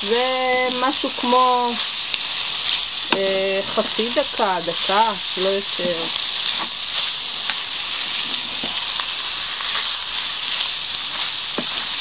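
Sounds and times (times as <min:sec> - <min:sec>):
meat and onions sizzling: 0:00.0 - 0:12.0.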